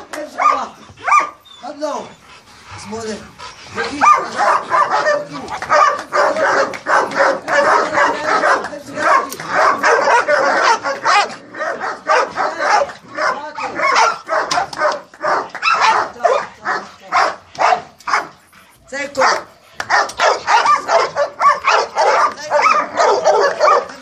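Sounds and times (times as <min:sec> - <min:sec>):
dog barking rapidly: 0:00.4 - 0:01.4, 0:03.8 - 0:18.4, 0:19.2 - 0:24.0.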